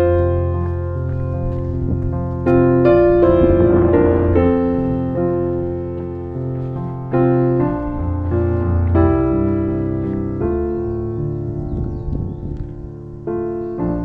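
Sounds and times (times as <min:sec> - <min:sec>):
low bass line: 0:00.0 - 0:14.0
piano playing slow chords: 0:00.0 - 0:14.0.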